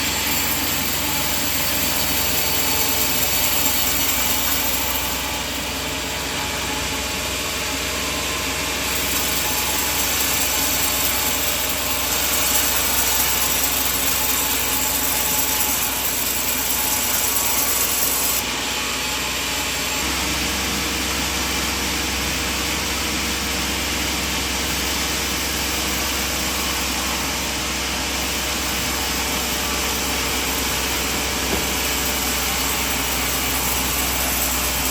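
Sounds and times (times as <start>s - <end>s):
band saw cutting logs: 0.0s - 34.9s.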